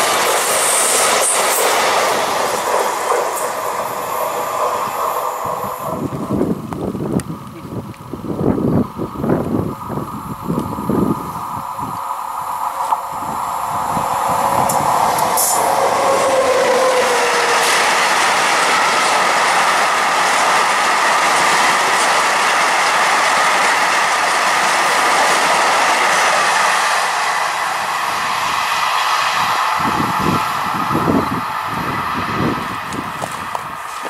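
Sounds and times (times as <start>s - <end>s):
freight train rolling rumble: 0.0s - 34.0s.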